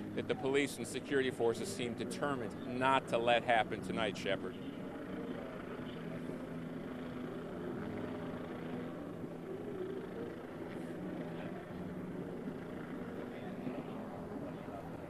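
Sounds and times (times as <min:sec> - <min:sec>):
engine idling hum: 0:00.0 - 0:15.0
outdoor street noise: 0:00.0 - 0:15.0.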